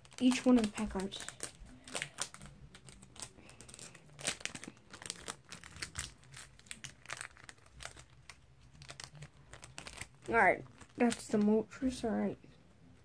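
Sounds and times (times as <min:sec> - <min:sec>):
foil wrapper crinkling and tearing: 0:00.0 - 0:11.5.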